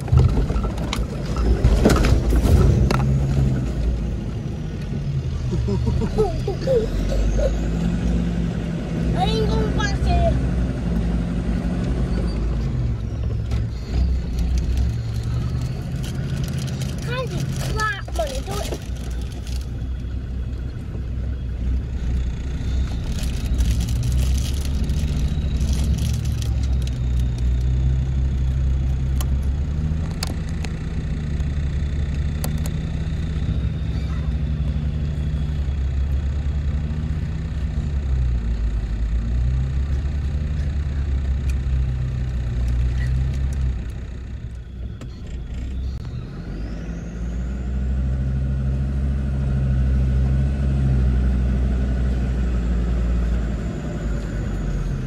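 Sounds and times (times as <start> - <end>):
diesel engine running at low revs: 0.0 - 55.0.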